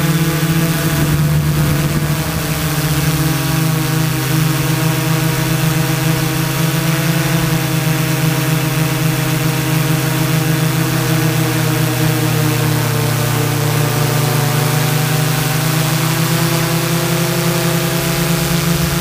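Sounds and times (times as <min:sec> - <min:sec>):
drone motors humming: 0:00.0 - 0:19.0.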